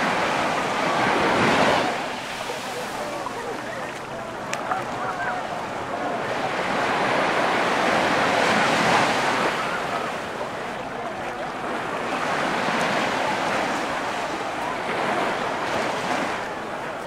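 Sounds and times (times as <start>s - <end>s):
surf breaking on sandy beach: 0.0s - 17.0s.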